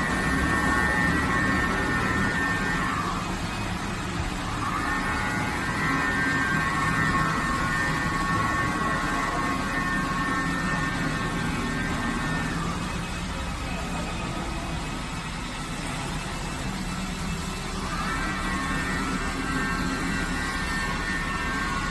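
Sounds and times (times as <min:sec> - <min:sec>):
low machine hum: 0:00.0 - 0:21.9
router spindle high whine: 0:00.0 - 0:21.9.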